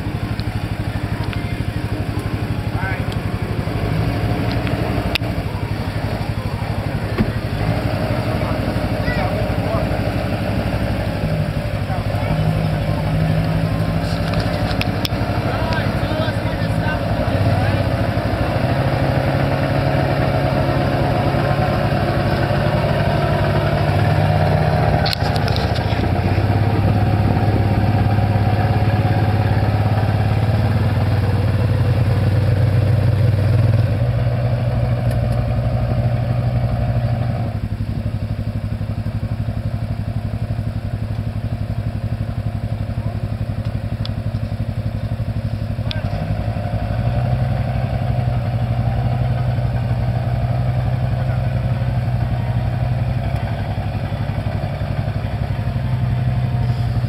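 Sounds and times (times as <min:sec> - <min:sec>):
small vehicle engine running: 0:00.0 - 0:57.0.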